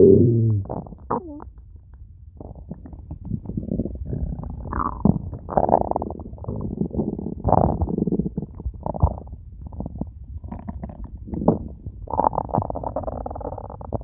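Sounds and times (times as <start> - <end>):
stomach growling: 0.0 - 14.0.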